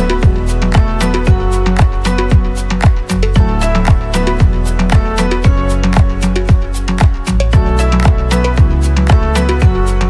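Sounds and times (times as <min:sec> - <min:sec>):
deep kick drum: 0:00.0 - 0:09.9
background music with beat: 0:00.0 - 0:10.0.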